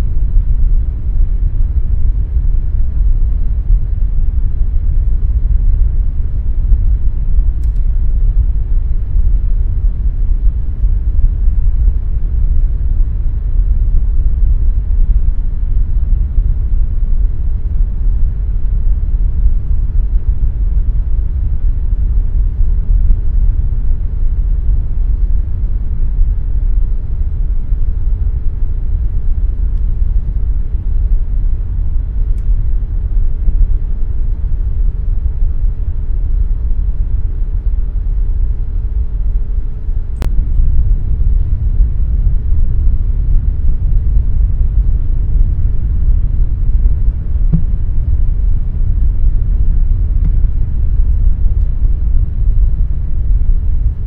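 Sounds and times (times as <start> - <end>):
air conditioner low rumble: 0.0 - 54.0
faint hum: 0.0 - 54.0.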